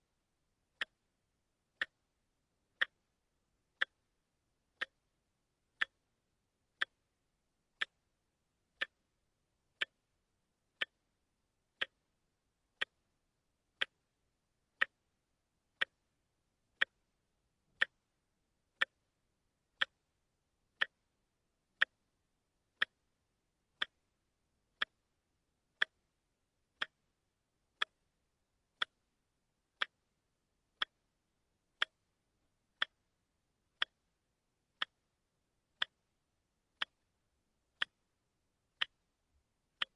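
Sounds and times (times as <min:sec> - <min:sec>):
watch ticking: 0:00.7 - 0:01.1, 0:01.7 - 0:06.1, 0:06.7 - 0:39.9.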